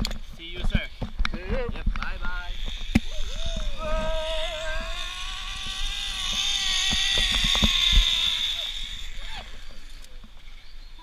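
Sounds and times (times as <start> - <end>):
zipline pulleys whining on cable: 2.1 - 11.0.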